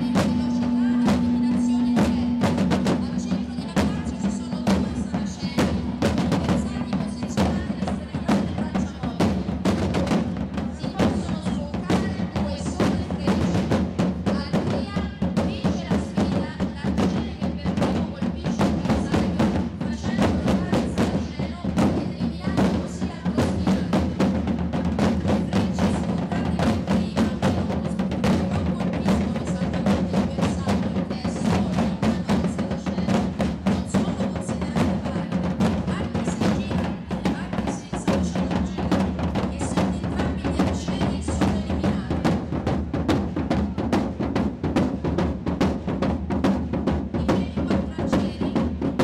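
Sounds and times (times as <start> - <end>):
side drums playing: 0.0 - 49.0.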